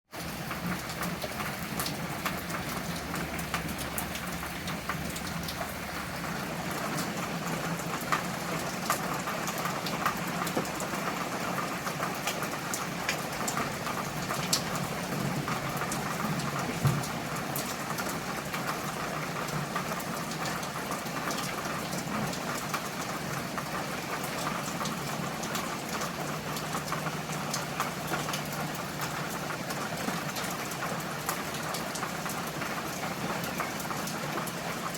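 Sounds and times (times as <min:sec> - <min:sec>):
raindrops ticking on a surface: 0:00.1 - 0:34.9
steady rain falling: 0:00.1 - 0:34.9.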